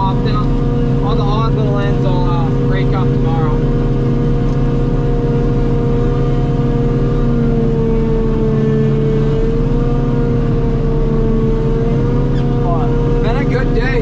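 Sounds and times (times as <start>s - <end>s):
cutterhead whine: 0.0s - 14.0s
harvester engine drone: 0.0s - 14.0s.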